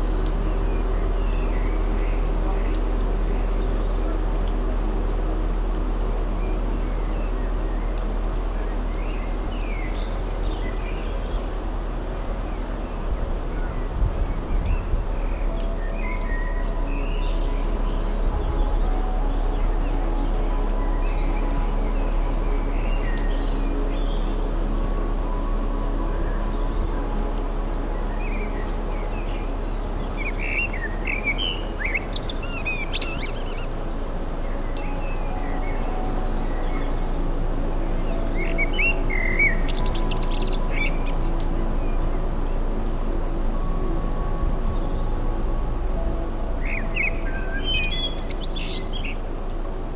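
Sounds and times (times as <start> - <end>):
boat engine rumbling: 0.0 - 49.9
steady low drone: 0.0 - 49.9
birds chirping: 6.3 - 49.8.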